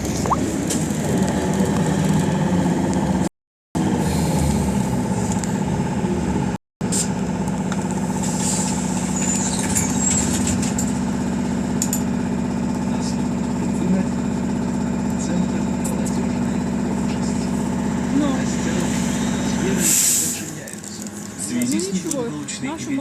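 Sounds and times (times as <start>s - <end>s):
trolleybus interior hum: 0.0s - 23.0s.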